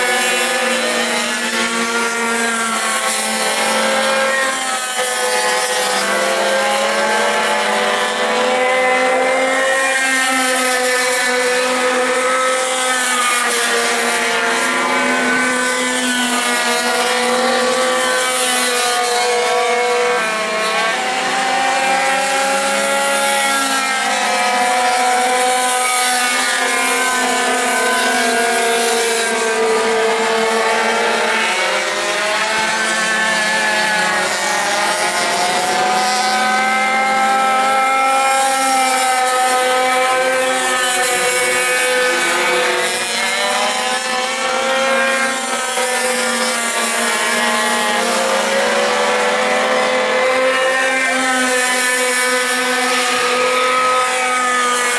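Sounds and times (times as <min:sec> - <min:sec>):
minibike engines revving: 0:00.0 - 0:54.9.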